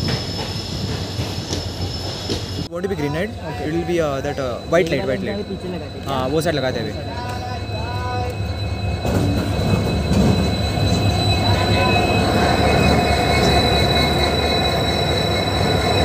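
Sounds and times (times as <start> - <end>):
diesel locomotive engine droning: 0.0 - 16.0.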